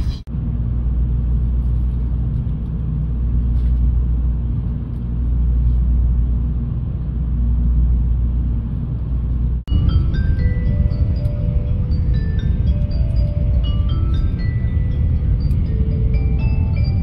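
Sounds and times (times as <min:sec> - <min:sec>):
train rumbling from inside: 0:00.0 - 0:17.0.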